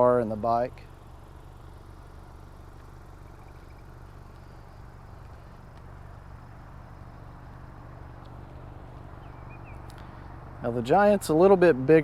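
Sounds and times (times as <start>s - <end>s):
car engine idling: 0.0s - 12.0s
faint outdoor hiss: 0.0s - 12.0s.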